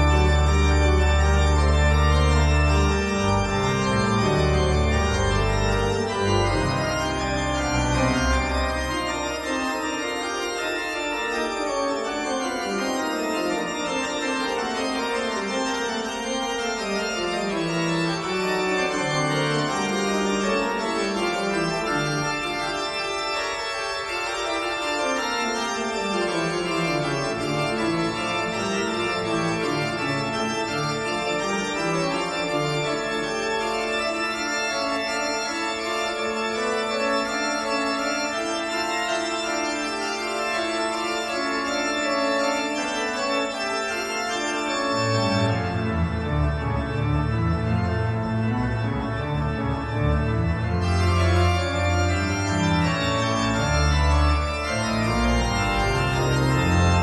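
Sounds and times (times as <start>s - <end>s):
organ playing chords: 0.0s - 57.0s.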